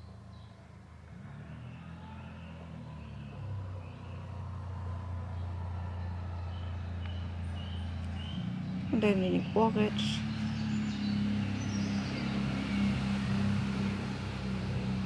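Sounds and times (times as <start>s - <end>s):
motor vehicle engine hum: 0.0s - 15.0s.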